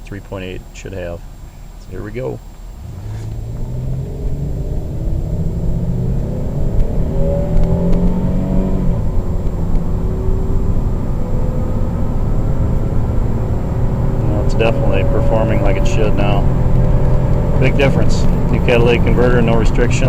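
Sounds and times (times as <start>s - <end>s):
car engine accelerating hard: 2.0s - 20.0s.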